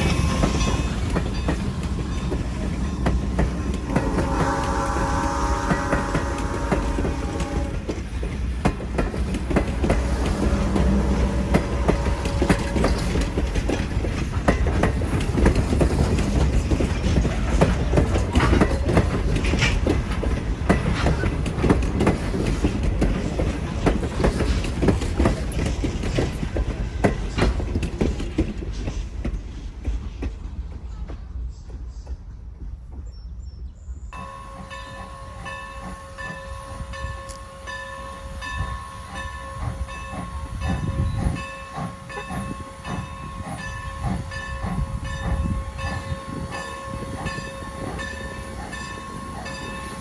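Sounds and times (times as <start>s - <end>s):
train wheels clacking over rail joints: 0.0s - 33.2s, 39.1s - 50.0s
steady low train rumble: 0.0s - 50.0s.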